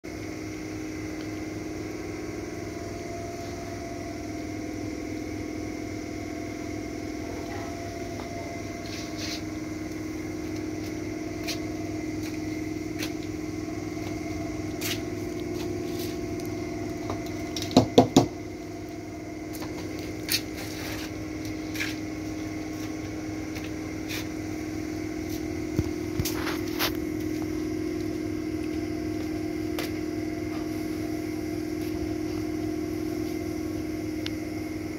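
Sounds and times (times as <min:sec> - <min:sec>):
machine hum with constant tones: 0:00.0 - 0:34.9.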